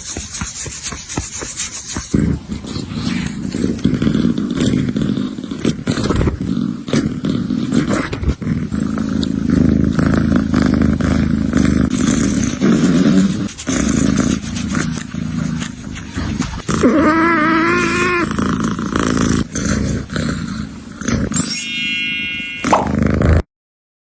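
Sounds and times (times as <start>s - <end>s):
scratchy rubbing of fur cleaning: 0.0s - 21.3s
kitten purring: 0.0s - 21.4s, 22.7s - 23.5s.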